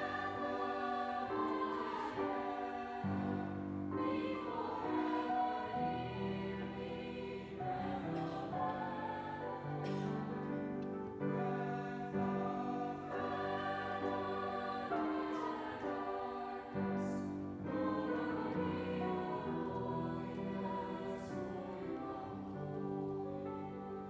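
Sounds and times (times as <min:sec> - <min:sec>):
church choir singing: 0:00.0 - 0:24.0.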